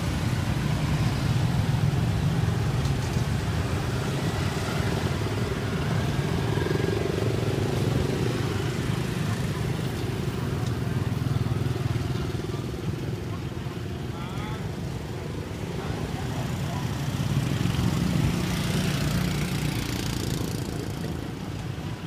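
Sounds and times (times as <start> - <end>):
traffic rumble with motorbikes: 0.0 - 22.0.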